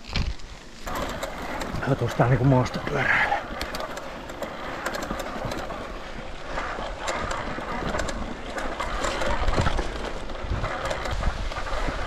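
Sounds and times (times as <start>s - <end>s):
bike rattling and clicking: 0.0s - 12.0s
tyres rolling on trail: 0.0s - 12.0s.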